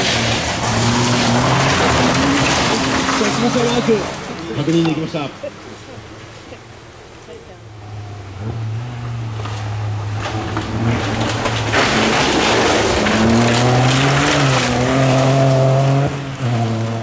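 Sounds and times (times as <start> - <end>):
tyres rushing on gravel: 0.0 - 17.0.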